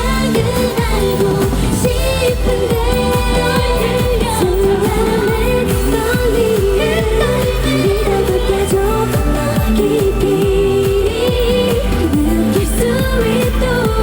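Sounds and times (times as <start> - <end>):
women singing over pop beat: 0.0 - 14.0.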